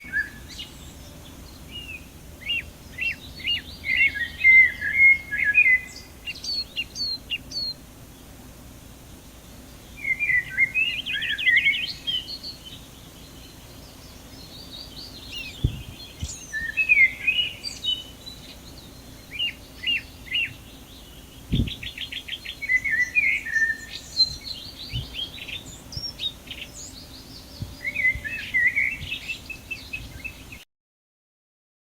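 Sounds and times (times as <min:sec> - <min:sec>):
bird chirping and trilling: 0:00.0 - 0:07.8, 0:09.5 - 0:30.6.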